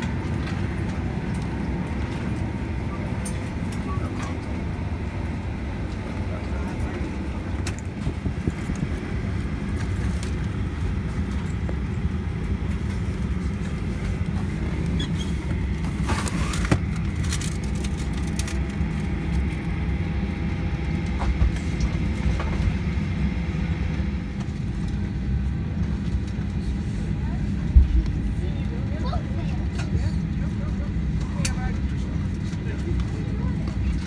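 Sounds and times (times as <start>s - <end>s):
aircraft cabin low rumble: 0.0s - 34.0s.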